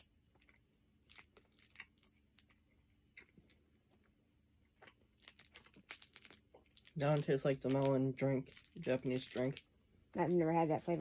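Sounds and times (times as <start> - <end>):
faint clicks and crinkles: 0.0 - 11.0.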